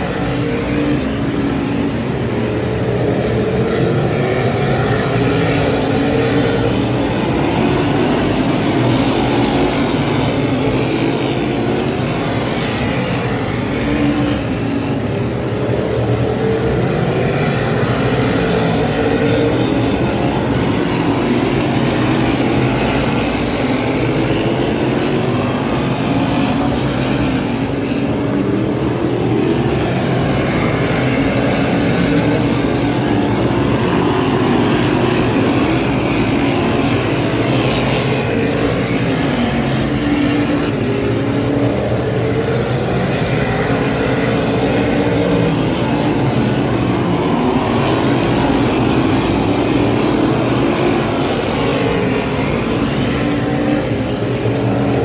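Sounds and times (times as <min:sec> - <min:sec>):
race car engines lapping: 0:00.0 - 0:55.0.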